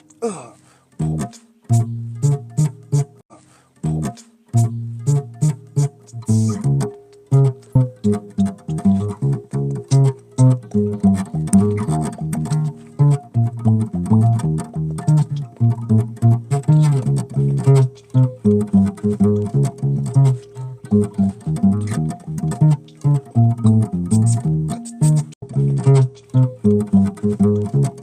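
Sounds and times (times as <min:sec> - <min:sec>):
bass guitar slapped notes: 0:01.0 - 0:03.2, 0:03.8 - 0:28.0.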